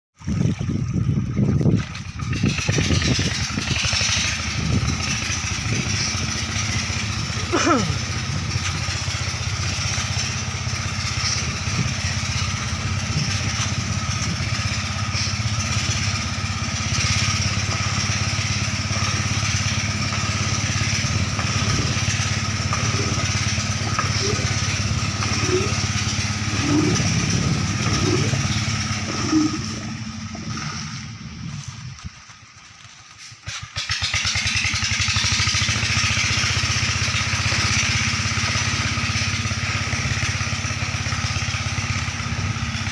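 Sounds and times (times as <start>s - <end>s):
machine engine running: 0.3s - 33.2s, 33.8s - 42.9s.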